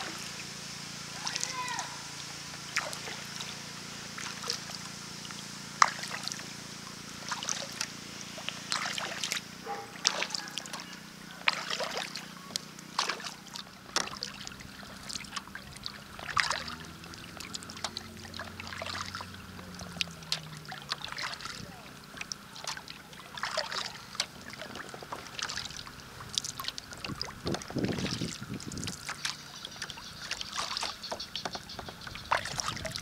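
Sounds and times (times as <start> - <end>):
low steady hum: 0.0 - 33.0
paddle splashing water: 0.0 - 33.0.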